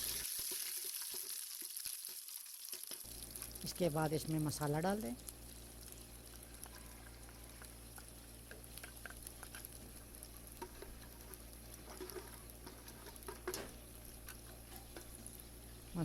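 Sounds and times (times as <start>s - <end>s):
chillies frying in a pan: 0.0s - 16.0s.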